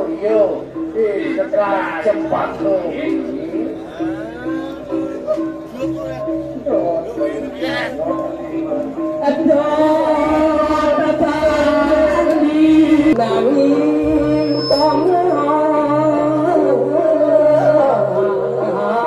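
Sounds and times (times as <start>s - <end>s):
voices singing slow chant: 0.0s - 19.0s.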